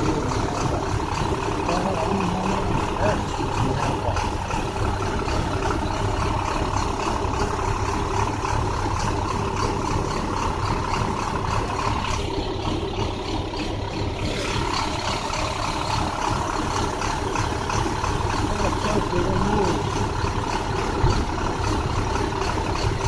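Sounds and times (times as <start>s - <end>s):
bus engine misfiring: 0.0s - 23.0s.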